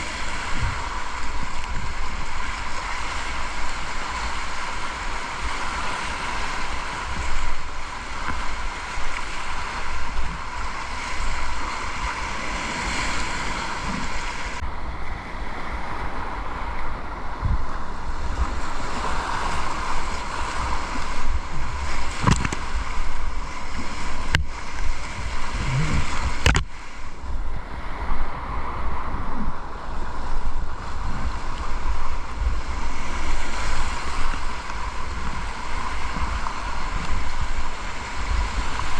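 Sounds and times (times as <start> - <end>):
river water rushing: 0.0 - 38.9
wind buffeting microphone: 0.0 - 38.9.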